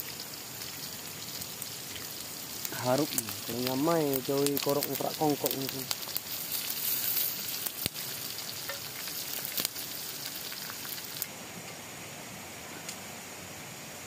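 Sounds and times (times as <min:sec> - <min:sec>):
meat sizzling in oil: 0:00.0 - 0:11.3.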